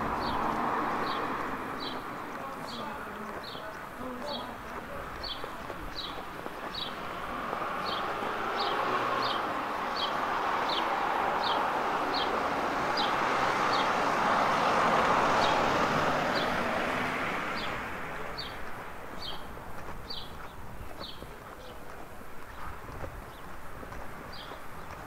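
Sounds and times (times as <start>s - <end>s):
road vehicle passing: 0.0s - 25.0s.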